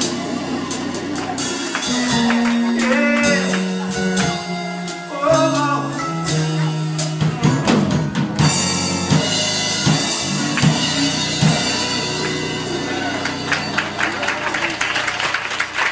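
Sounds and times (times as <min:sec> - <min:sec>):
live band playing: 0:00.0 - 0:15.9.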